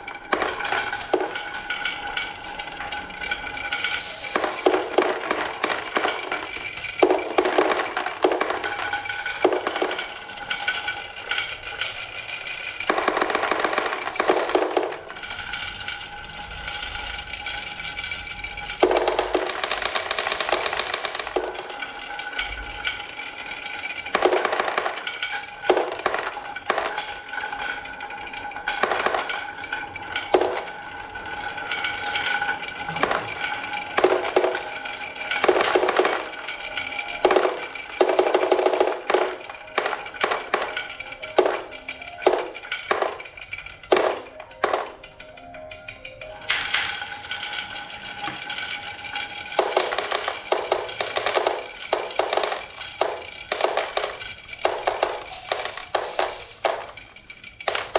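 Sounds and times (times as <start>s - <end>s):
marbles clattering down wooden run: 0.0s - 57.9s.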